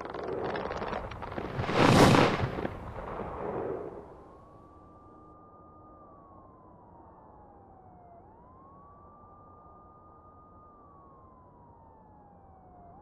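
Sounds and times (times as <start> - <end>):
distant police siren wailing: 0.0 - 13.0.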